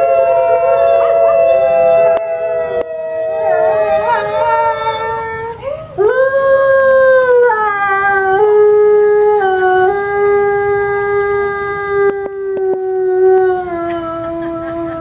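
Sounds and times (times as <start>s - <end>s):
wolf howling: 0.0s - 15.0s.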